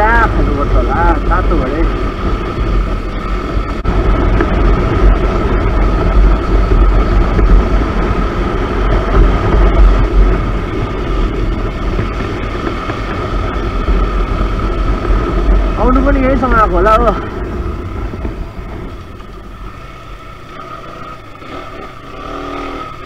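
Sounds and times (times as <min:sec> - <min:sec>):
wind buffeting microphone: 0:00.0 - 0:20.5
motorcycle engine cruising: 0:00.0 - 0:23.0.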